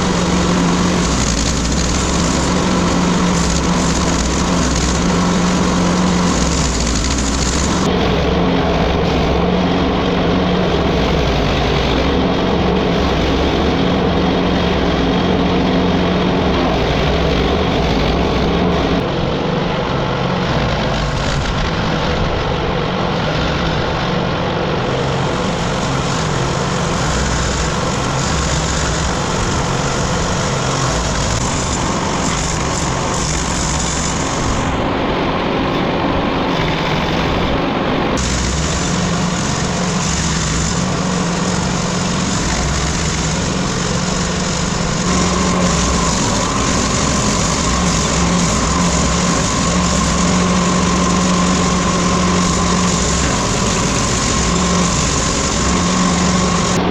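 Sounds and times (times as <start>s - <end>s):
wood chipper engine running: 0.0s - 56.9s.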